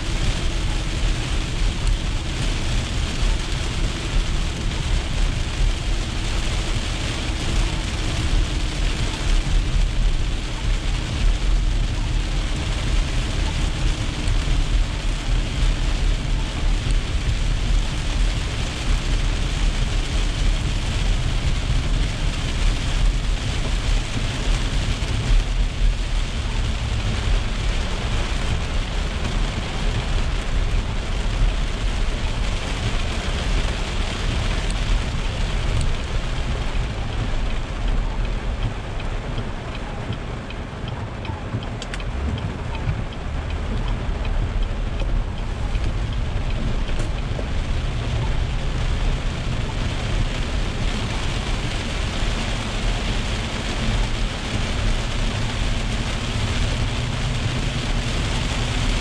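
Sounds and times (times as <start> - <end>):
heavy rain on car: 0.0 - 59.0
steady low rumble: 0.0 - 59.0
tyre noise on wet road: 0.0 - 59.0.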